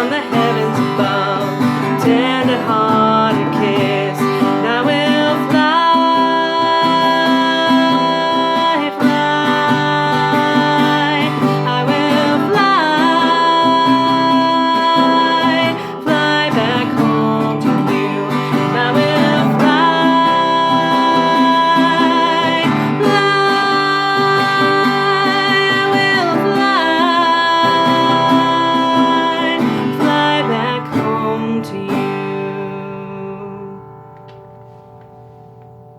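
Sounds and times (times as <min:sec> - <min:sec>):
woman singing: 0:00.0 - 0:34.2
acoustic guitar strumming: 0:00.0 - 0:35.9.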